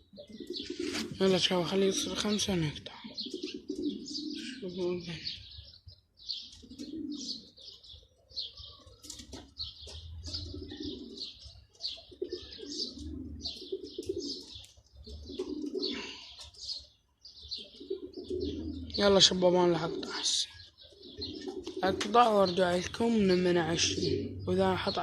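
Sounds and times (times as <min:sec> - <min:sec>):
pigeons cooing: 0:00.0 - 0:25.0
small birds chirping: 0:00.0 - 0:25.0.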